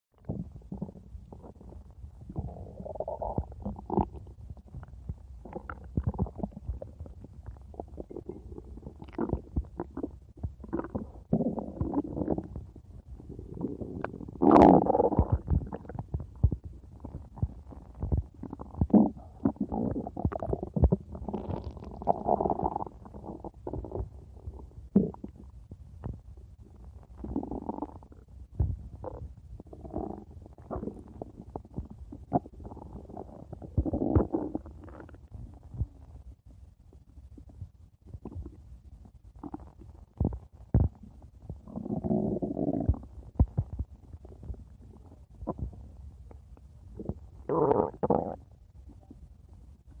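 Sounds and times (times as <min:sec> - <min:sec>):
stomach growling and gurgling: 0:00.2 - 0:50.0.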